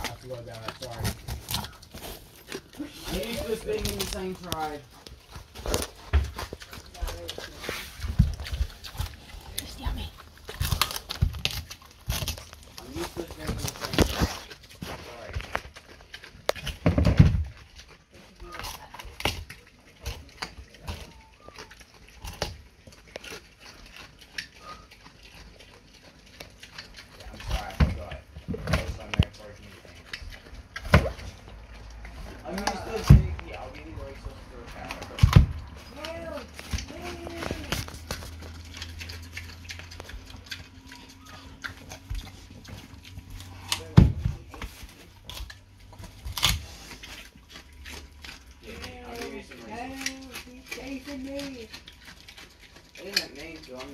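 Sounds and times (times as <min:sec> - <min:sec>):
pig chomping pumpkin: 0:00.0 - 0:53.9.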